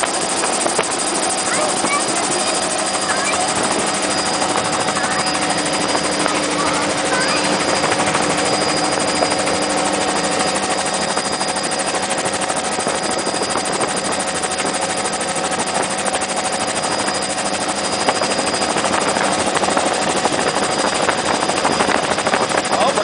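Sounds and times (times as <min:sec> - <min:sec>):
helicopter drone with whine: 0:00.0 - 0:23.0.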